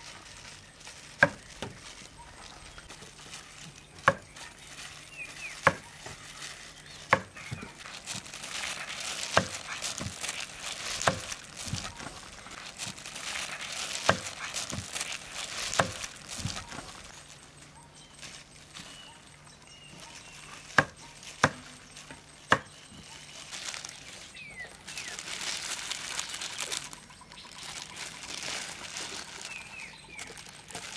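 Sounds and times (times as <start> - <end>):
soft crackly hiss: 0.0 - 30.9.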